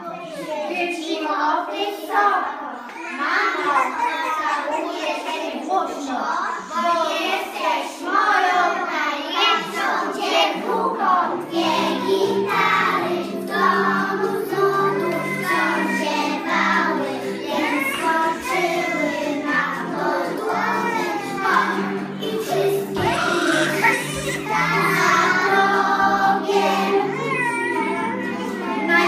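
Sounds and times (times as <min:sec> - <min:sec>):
children singing in chorus: 0:00.0 - 0:29.0.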